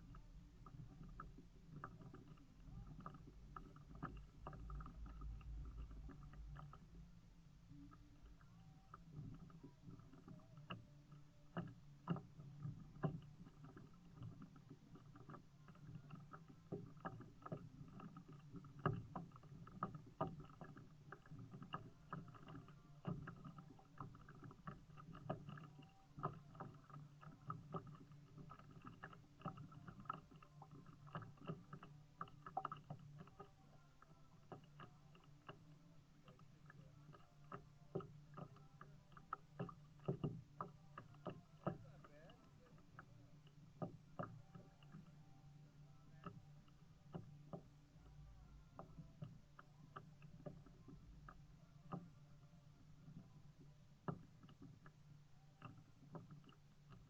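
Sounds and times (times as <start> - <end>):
paddle splashing water: 0.0 - 57.0.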